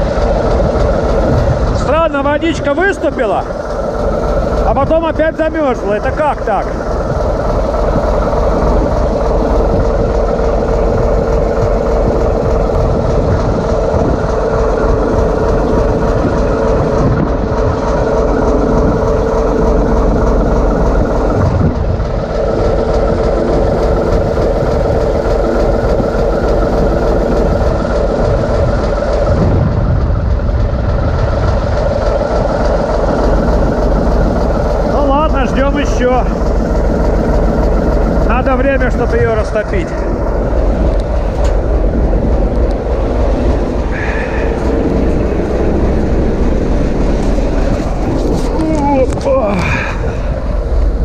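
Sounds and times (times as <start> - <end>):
diesel locomotive engine running: 0.0 - 51.0
steady mid-pitched tone: 0.0 - 51.0
wind buffeting microphone: 0.0 - 51.0.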